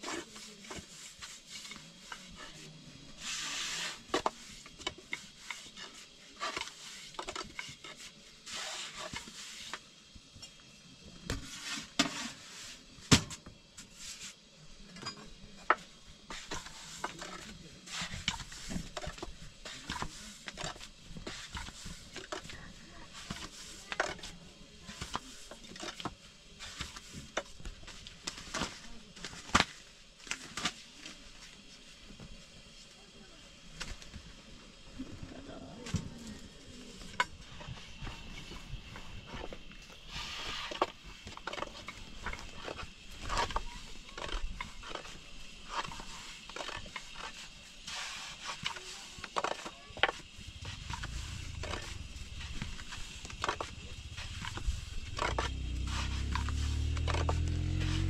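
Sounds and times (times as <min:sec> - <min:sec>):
rolling pin swishing over dough: 0:00.0 - 0:13.0, 0:13.8 - 0:14.9, 0:15.7 - 0:29.5, 0:36.2 - 0:58.0.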